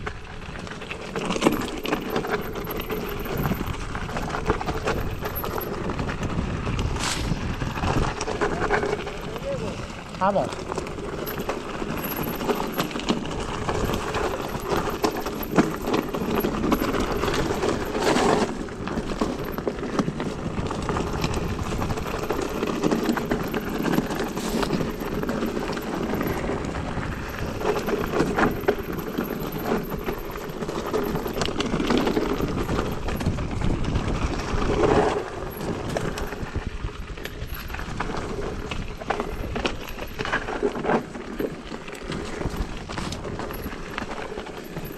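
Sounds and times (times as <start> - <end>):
bike rattling over bumps: 0.0 - 44.9
tyres crunching on stony ground: 0.0 - 44.9.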